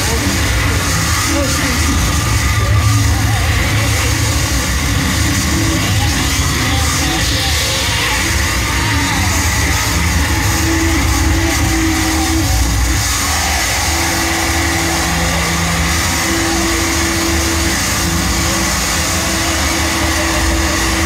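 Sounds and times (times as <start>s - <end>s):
harsh electronic noise music: 0.0s - 21.0s.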